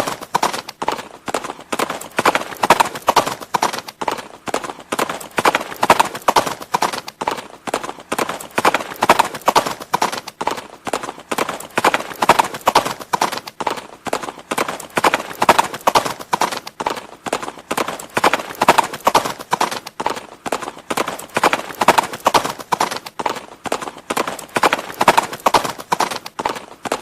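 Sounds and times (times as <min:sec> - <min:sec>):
horse hooves clip-clopping: 0:00.0 - 0:27.0.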